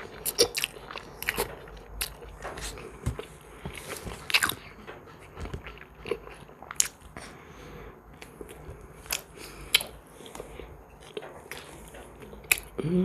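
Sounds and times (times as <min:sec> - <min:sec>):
person chewing and eating: 0:00.0 - 0:13.0.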